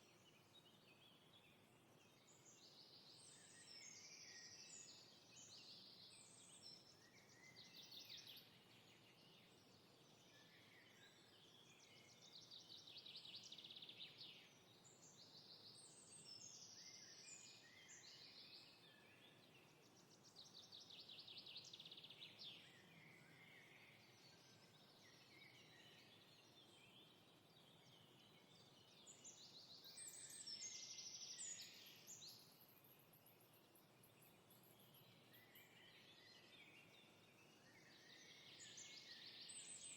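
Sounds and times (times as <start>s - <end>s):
soft steady hiss: 0.0s - 39.9s
songbirds singing: 0.0s - 39.9s.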